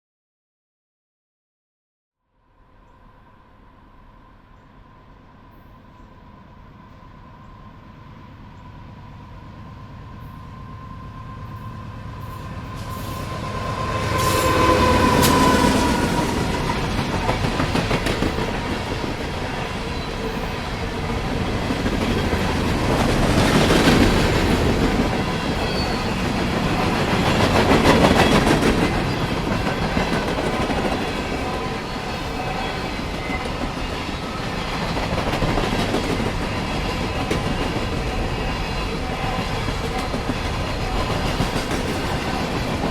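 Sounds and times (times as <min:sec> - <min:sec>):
diesel locomotives passing: 0:02.6 - 0:42.9.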